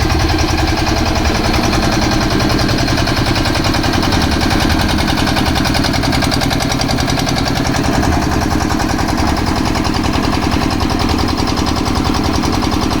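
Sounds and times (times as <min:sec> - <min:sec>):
concrete mixer engine running: 0:00.0 - 0:13.0.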